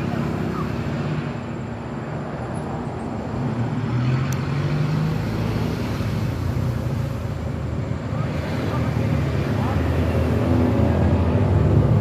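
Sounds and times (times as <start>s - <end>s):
motor vehicle engine hum: 0.0s - 12.0s
tyre and road noise: 0.0s - 12.0s.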